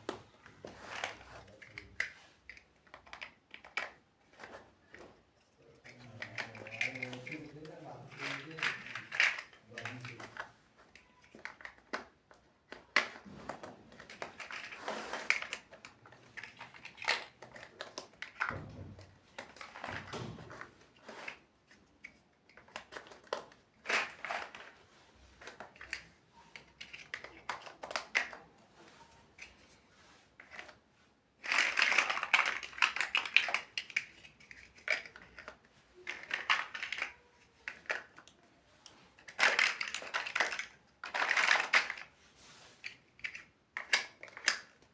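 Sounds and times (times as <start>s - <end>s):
plastic bricks rattling and crinkling: 0.0s - 44.9s
plastic bricks clicking together: 1.0s - 5.0s, 5.7s - 24.8s, 25.4s - 28.4s, 31.4s - 42.1s, 42.8s - 44.9s.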